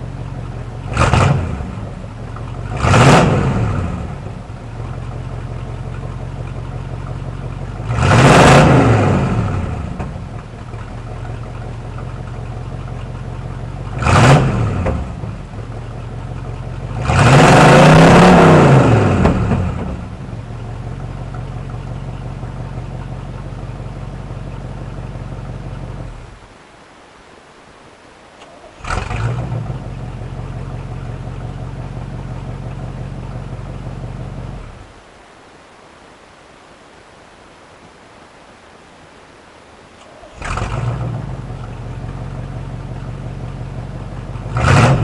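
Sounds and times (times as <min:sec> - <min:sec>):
pickup truck engine idling and revving: 0:00.0 - 0:26.4, 0:28.7 - 0:35.0, 0:40.1 - 0:45.0.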